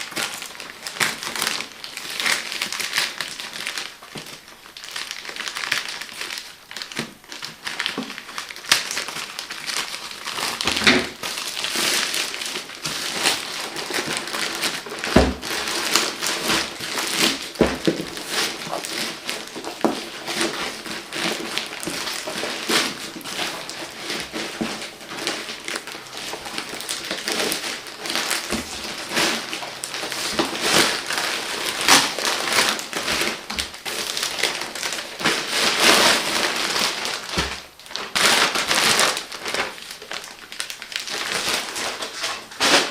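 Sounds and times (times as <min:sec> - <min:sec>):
plastic packaging crinkling: 0:00.0 - 0:42.9.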